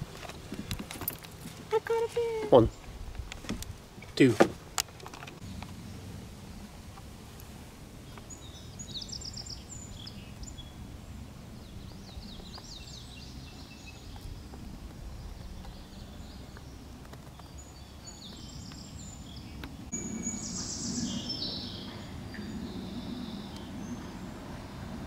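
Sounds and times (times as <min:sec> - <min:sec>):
songbirds chirping and trilling: 0:00.0 - 0:25.0
low outdoor rumble: 0:04.6 - 0:25.0.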